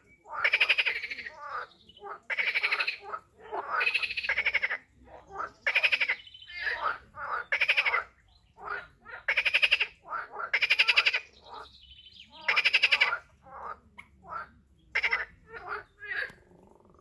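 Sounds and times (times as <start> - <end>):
faint frog calls: 0.0 - 17.0
frogs croaking: 0.0 - 17.0.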